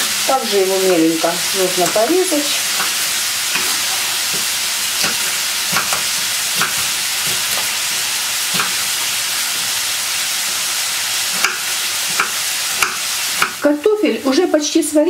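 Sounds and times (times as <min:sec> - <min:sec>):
vegetables sizzling in a pan: 0:00.0 - 0:15.0.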